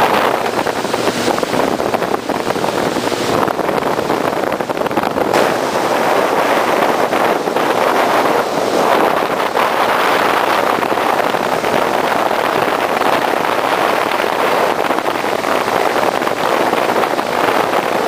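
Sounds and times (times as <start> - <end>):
jet ski engine and water rush: 0.0 - 18.0
wind buffeting microphone: 0.0 - 18.0.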